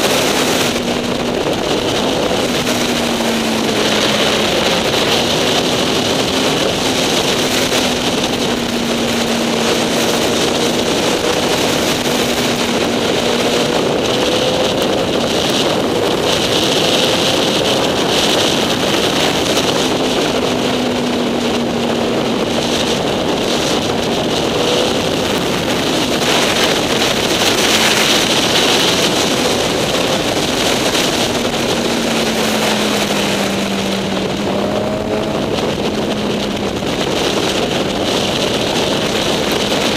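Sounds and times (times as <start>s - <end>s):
motorcycle engine running: 0.0s - 39.9s
wind buffeting the microphone: 0.0s - 39.9s.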